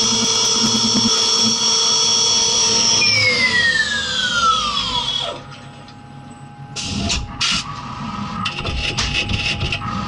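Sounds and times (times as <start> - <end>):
mill spindle whine winding down: 0.0 - 8.6.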